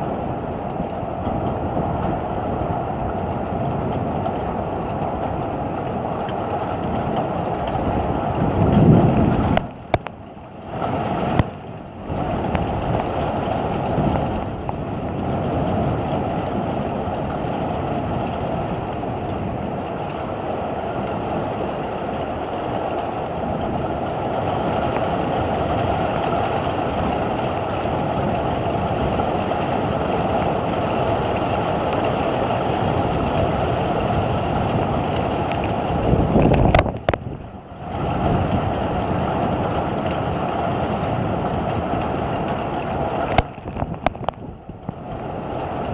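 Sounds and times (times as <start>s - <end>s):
heavy rain: 0.0s - 45.9s
storm wind gusts: 0.0s - 45.9s.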